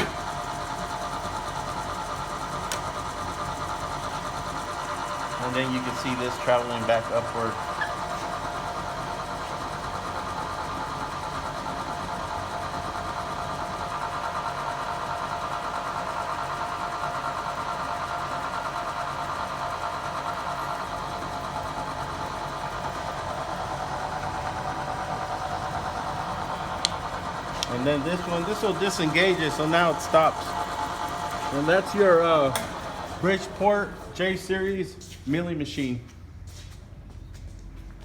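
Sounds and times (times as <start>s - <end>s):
milling machine hum and whine: 0.0s - 38.0s.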